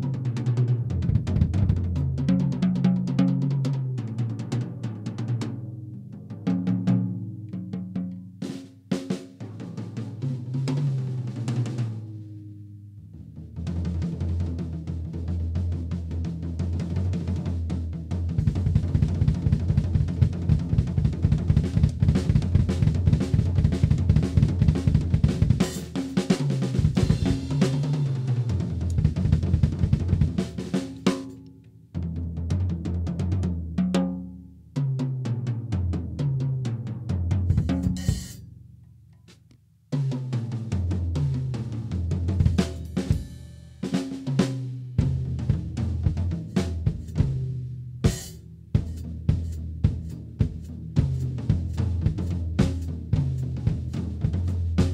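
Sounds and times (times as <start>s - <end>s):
drum kit playing: 0.0s - 5.6s, 6.2s - 12.4s, 13.2s - 31.4s, 32.0s - 38.5s, 39.3s - 54.9s.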